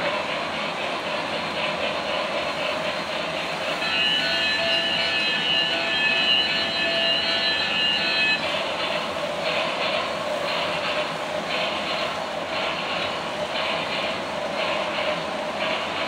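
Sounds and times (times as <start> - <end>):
rhythmic rushing clatter: 0.0 - 16.0.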